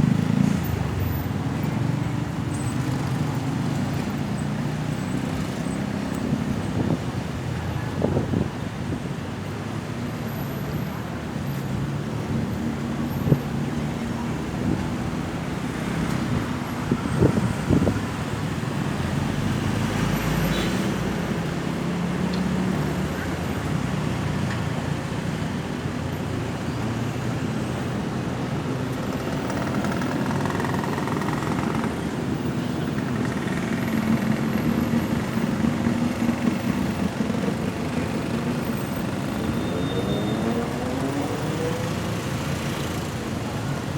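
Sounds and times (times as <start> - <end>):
passing vehicles: 0.0 - 43.9.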